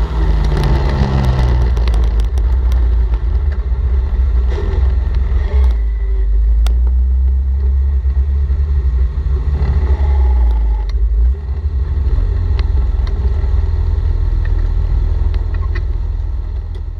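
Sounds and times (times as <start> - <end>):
sharp clicks and rattles: 0.0 - 16.9.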